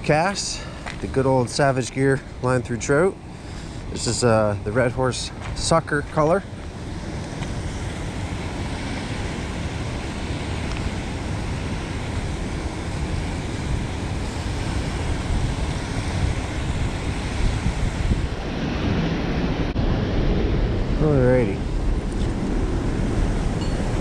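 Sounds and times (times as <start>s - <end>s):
wind buffeting the microphone: 0.0s - 24.0s
water rushing over a spillway: 3.9s - 24.0s.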